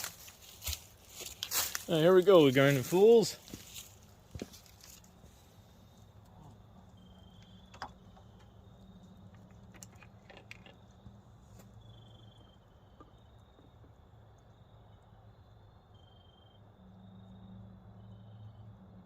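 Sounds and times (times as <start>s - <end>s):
faint low hum: 2.7s - 19.0s.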